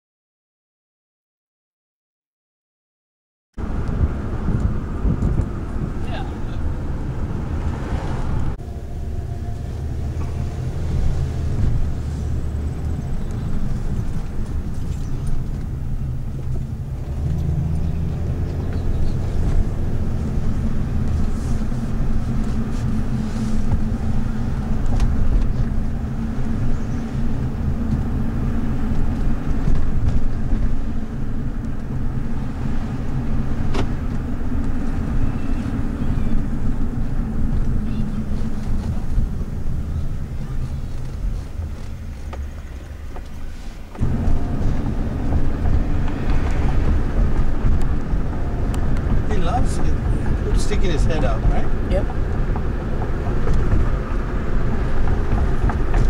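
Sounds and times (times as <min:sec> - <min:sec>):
car interior engine drone: 0:03.6 - 0:56.0.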